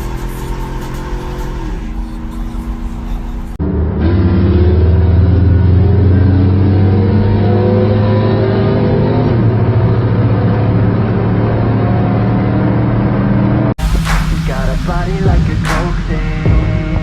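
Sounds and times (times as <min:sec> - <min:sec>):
vehicle engine pulling: 0:00.0 - 0:14.0.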